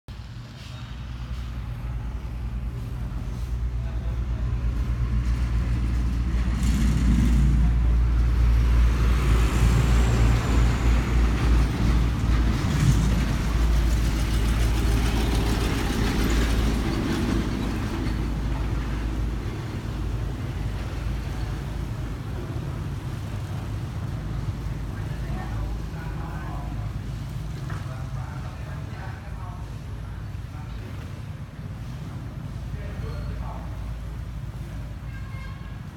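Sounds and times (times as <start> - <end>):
vehicle engine rumble: 0.1 - 35.9.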